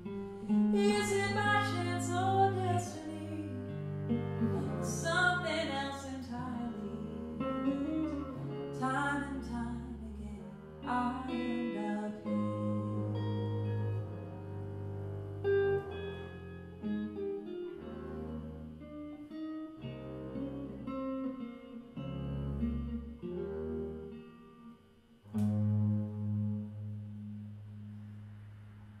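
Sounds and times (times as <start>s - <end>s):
plucked double bass: 0.0s - 24.6s, 25.3s - 29.0s
electric guitar: 0.0s - 29.0s.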